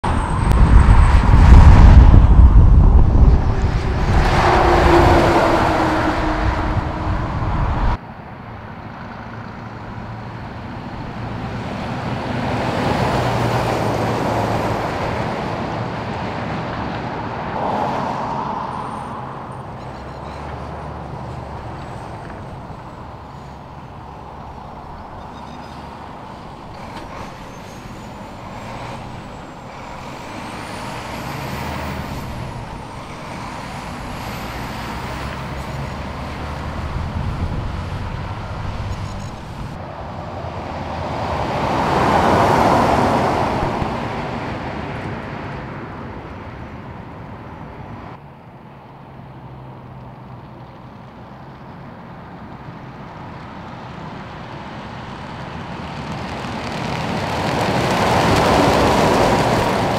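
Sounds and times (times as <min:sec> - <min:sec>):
diesel trucks passing: 0:00.0 - 0:59.9
truck tyres on road: 0:00.0 - 0:59.9.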